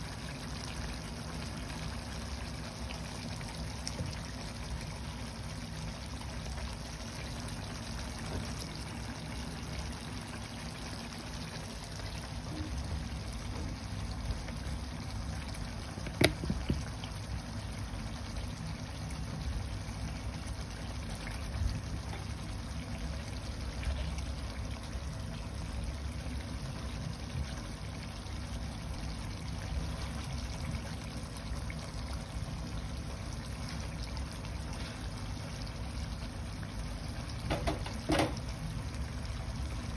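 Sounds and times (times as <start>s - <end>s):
sauce bubbling in a pan: 0.0s - 39.9s.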